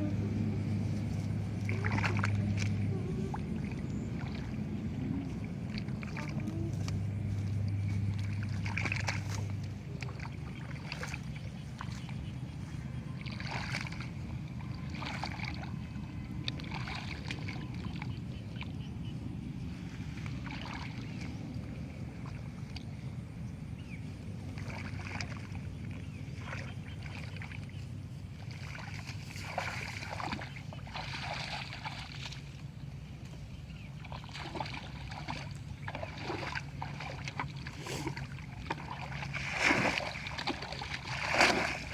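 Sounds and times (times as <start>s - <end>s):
steady low hum: 0.0s - 41.9s
water splashing and sloshing: 0.0s - 41.9s.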